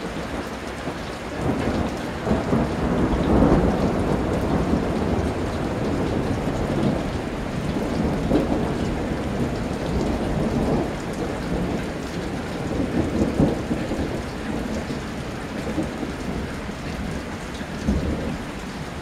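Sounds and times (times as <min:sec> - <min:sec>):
steady rain falling: 0:00.0 - 0:19.0
thunder rumbling: 0:00.0 - 0:19.0.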